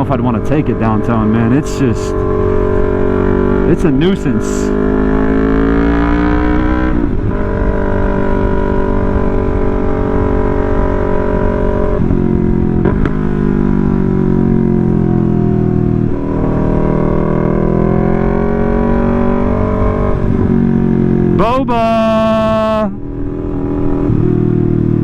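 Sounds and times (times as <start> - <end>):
motorcycle engine through loud exhaust: 0.0 - 25.0.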